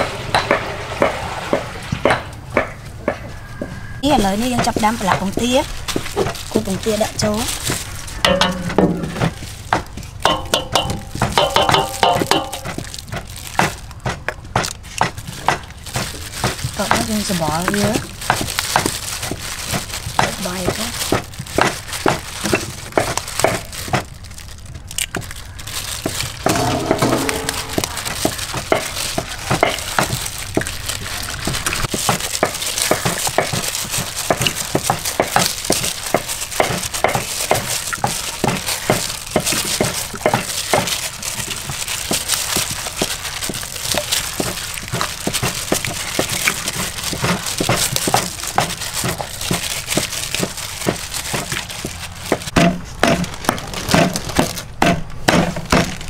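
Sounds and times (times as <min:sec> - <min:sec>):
plastic glove crinkling: 0:04.0 - 0:54.8
wet squishes of raw chicken: 0:04.2 - 0:08.2, 0:12.2 - 0:26.5, 0:27.8 - 0:54.7.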